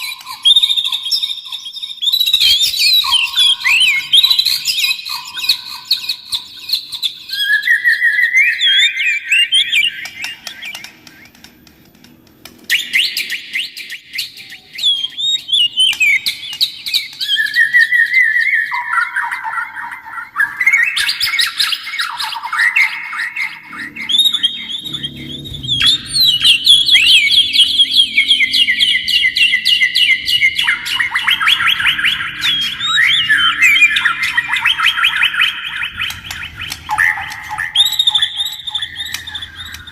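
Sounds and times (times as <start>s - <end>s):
songbird singing trills: 0.0s - 11.5s, 12.6s - 39.9s.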